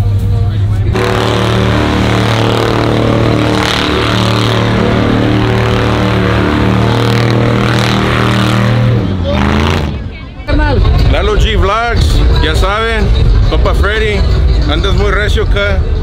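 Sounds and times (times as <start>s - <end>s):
rushing noise: 0.0s - 16.0s
truck engine at high revs: 0.0s - 16.0s.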